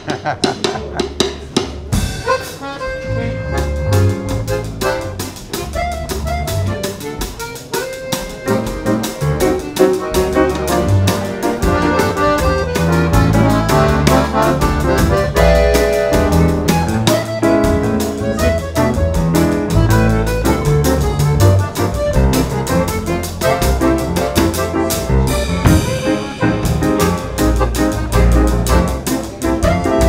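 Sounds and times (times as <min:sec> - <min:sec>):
bass line: 0:00.0 - 0:30.0
drum kit with cymbals: 0:00.0 - 0:30.0
accordion notes: 0:01.2 - 0:30.0.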